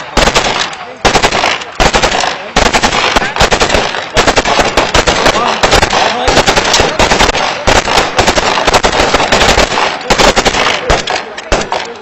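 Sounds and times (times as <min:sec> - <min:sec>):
automatic rifle gunfire: 0:00.0 - 0:12.0.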